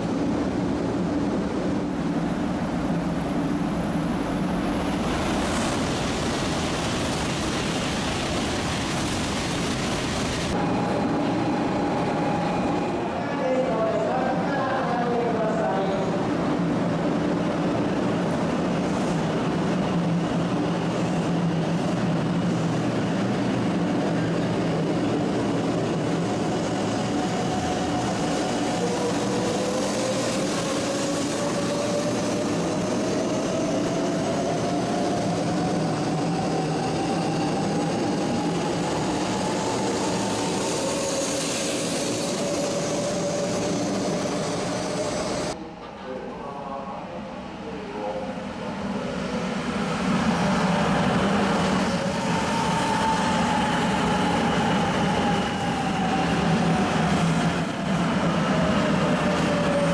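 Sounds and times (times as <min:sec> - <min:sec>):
train rumbling and hissing by: 0:00.0 - 0:59.9.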